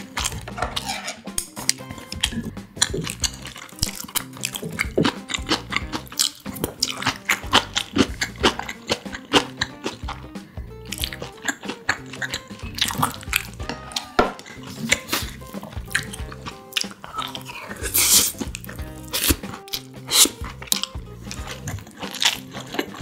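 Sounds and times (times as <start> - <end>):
background music: 0.0 - 23.0
wet chewing and mouth smacks: 0.0 - 23.0.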